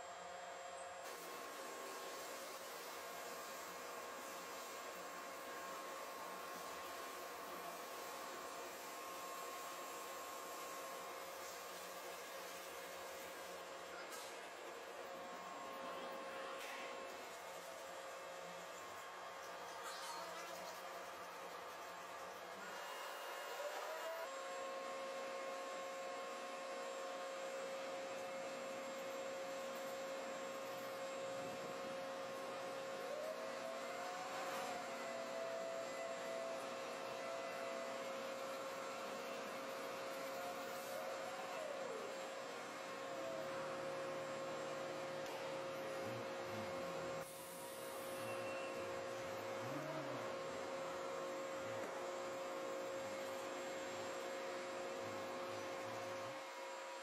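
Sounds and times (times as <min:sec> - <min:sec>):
small motor humming: 0:01.0 - 0:57.0.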